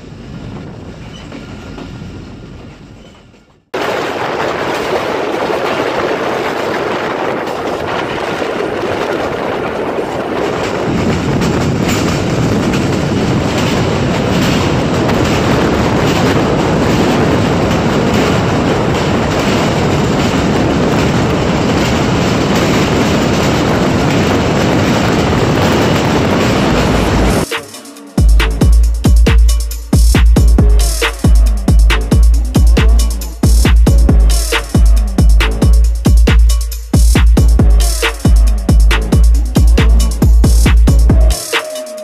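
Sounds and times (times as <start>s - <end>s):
train wheels rumbling on track: 0.0s - 42.0s.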